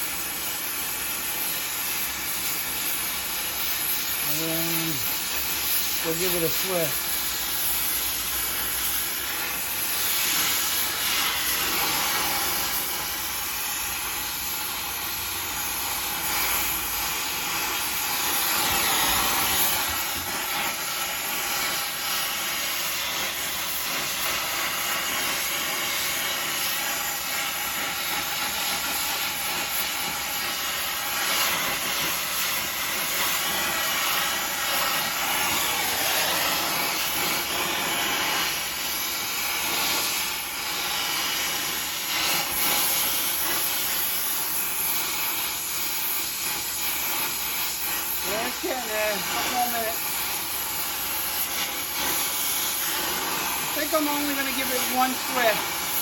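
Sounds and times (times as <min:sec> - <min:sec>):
gas torch flame hissing: 0:00.0 - 0:56.0.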